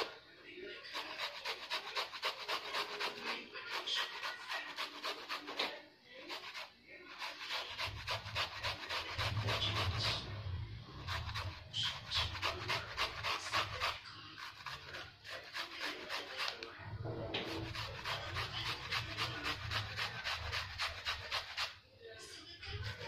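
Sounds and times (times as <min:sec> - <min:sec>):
banana rasping on metal grater: 0:00.7 - 0:21.8, 0:22.6 - 0:23.0.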